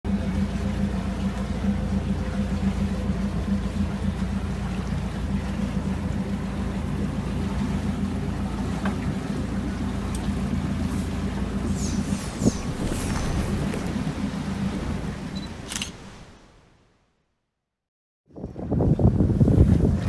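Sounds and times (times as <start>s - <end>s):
boat engine running: 0.0s - 17.0s, 18.4s - 20.0s.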